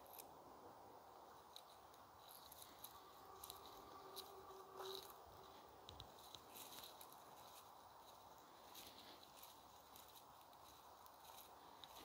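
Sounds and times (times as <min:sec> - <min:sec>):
faint steady tone: 0:00.0 - 0:12.0
footsteps on dirt path: 0:02.3 - 0:12.0.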